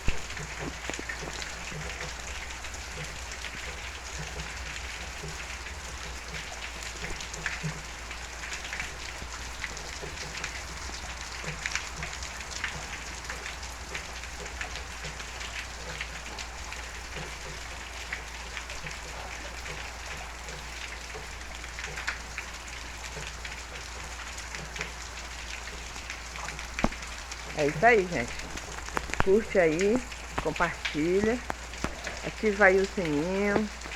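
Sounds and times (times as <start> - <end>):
raindrops ticking on surfaces: 0.0 - 33.9
steady rain falling: 0.0 - 33.9.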